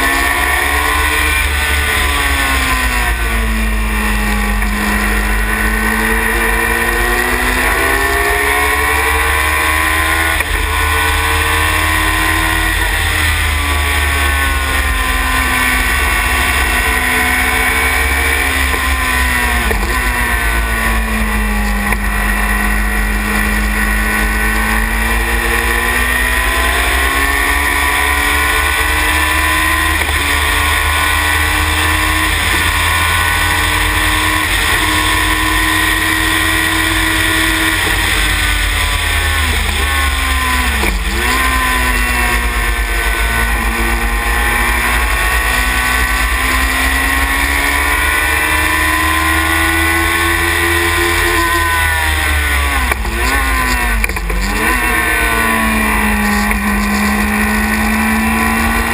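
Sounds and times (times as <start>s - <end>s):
racing car engine at speed: 0.0s - 58.9s.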